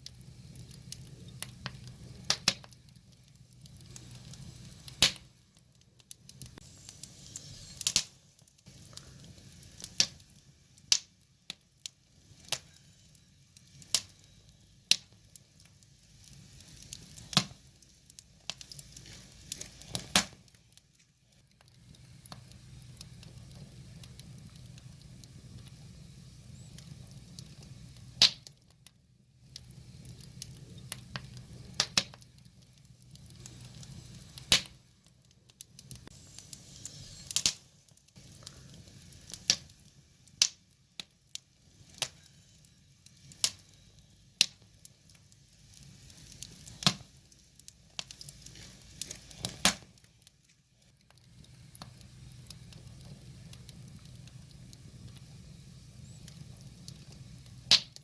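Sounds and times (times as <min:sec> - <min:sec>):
soft hiss: 0:00.0 - 0:28.2, 0:29.2 - 0:58.0
low rumble of flame: 0:00.0 - 0:58.0
wood fire crackling: 0:00.0 - 0:58.0.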